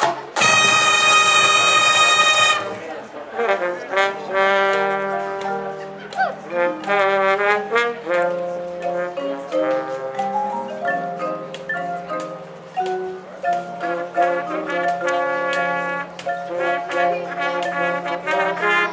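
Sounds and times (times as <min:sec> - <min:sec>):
marching band playing: 0:00.0 - 0:18.9.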